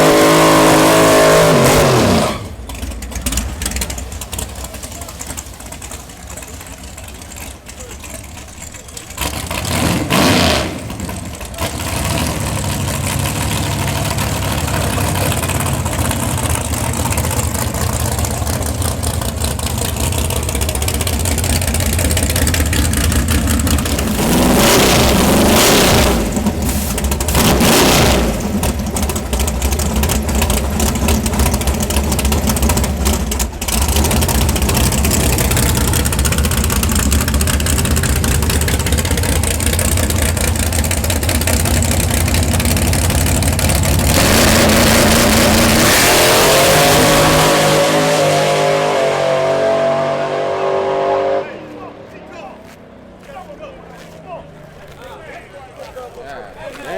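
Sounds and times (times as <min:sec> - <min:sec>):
race car engine idling and revving: 0:00.0 - 0:56.9.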